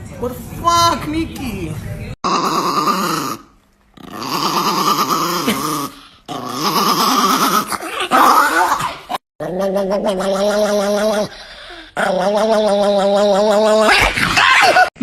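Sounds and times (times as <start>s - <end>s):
small dog growling: 2.3s - 14.3s.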